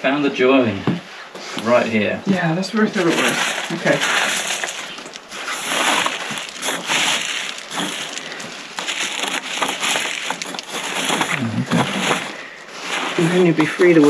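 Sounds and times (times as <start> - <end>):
rubble crunching and rattling: 2.3 - 14.0.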